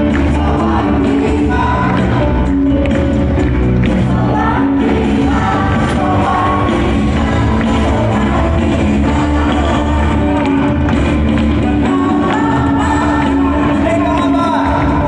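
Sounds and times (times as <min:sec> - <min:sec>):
band music with singing: 0:00.0 - 0:15.0
steady bass line: 0:00.0 - 0:15.0.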